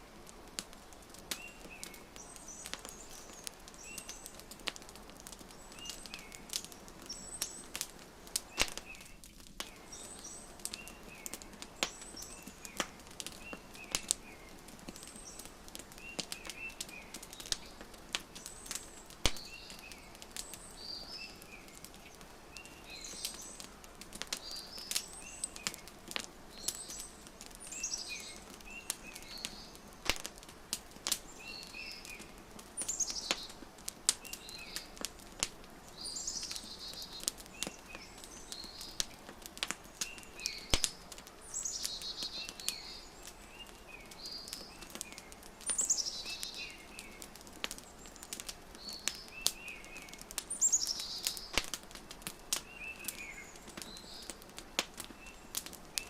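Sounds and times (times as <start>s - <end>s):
soft steady hiss: 0.0s - 56.0s
wood fire crackling and popping: 0.0s - 56.0s
small birds chirping: 0.4s - 56.0s.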